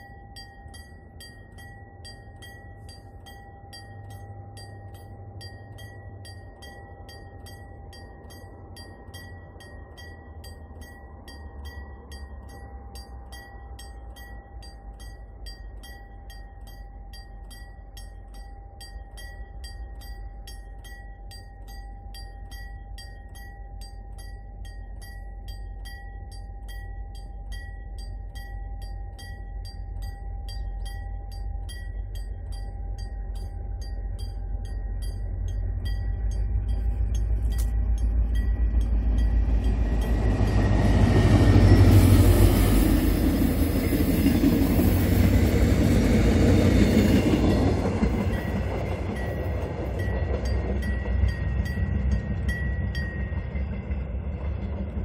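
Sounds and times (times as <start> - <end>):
level crossing bell ringing: 0.0 - 45.6, 46.4 - 53.8
diesel train passing: 0.0 - 55.0.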